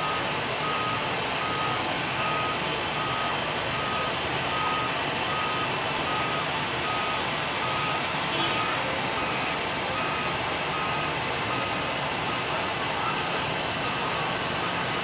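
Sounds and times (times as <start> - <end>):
reversing alarm beeping: 0.0 - 15.0.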